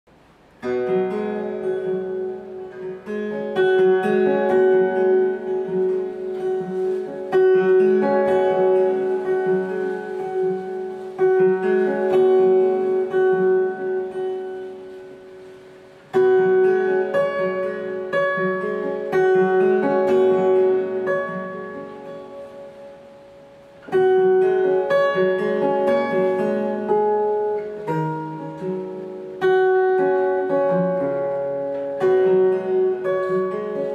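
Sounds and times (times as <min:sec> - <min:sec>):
fingerstyle acoustic guitar: 0:00.1 - 0:33.9.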